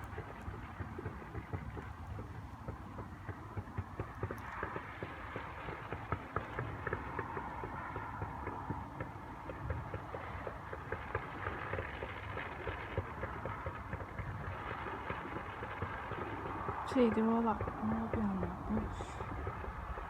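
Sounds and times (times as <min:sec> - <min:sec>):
distant fireworks crackling and popping: 0:00.0 - 0:20.0
low background rumble: 0:00.0 - 0:20.0.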